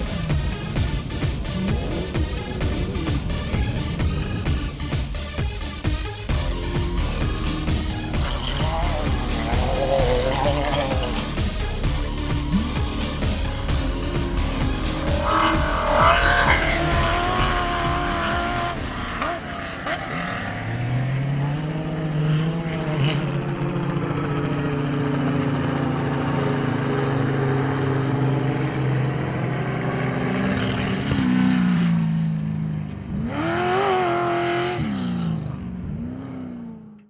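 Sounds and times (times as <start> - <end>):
buggy engine revving: 0.0 - 37.0.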